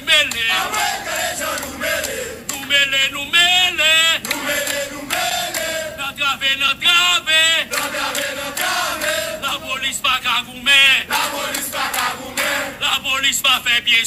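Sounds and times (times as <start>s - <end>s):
man singing a chant: 0.0s - 14.0s.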